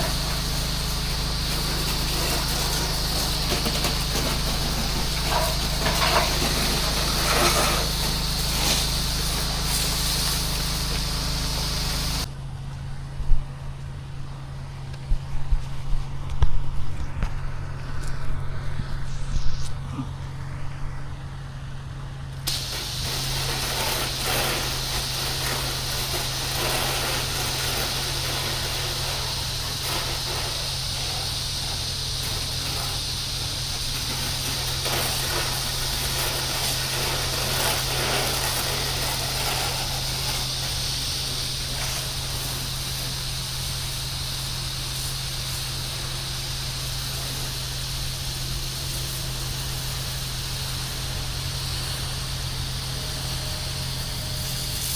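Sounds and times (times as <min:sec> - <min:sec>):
water jet spraying hiss: 0:00.0 - 0:12.3, 0:22.4 - 0:54.9
pressure washer engine running: 0:00.0 - 0:54.9.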